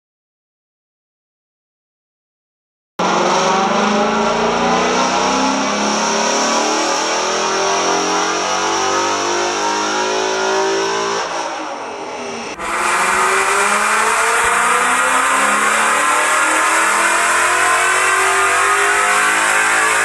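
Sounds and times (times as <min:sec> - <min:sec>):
loud car engine under load: 0:03.0 - 0:20.0.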